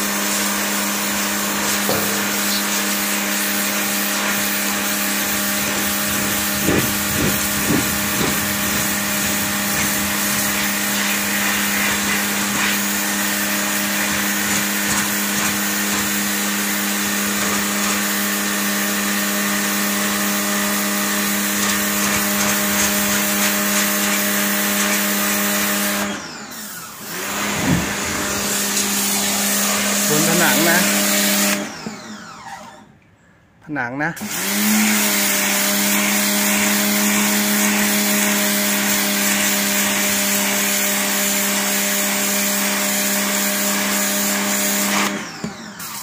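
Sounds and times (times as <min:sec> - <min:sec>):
water jet hissing on concrete: 0:00.0 - 0:26.1, 0:27.4 - 0:31.6, 0:34.6 - 0:45.0
pressure washer motor hum: 0:00.0 - 0:32.8, 0:34.2 - 0:46.0.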